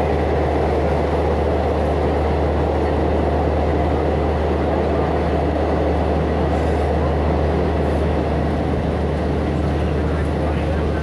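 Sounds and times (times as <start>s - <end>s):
train rumbling in tunnel: 0.0s - 11.0s.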